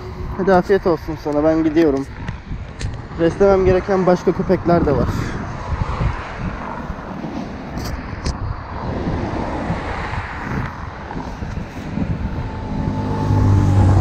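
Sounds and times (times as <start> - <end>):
engine hum: 0.0 - 14.0
wind buffeting microphone: 0.0 - 14.0.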